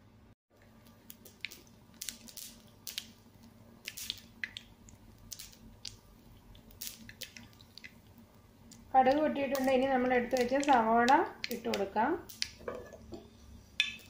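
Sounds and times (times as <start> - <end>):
seeds popping in hot oil: 0.7 - 14.0.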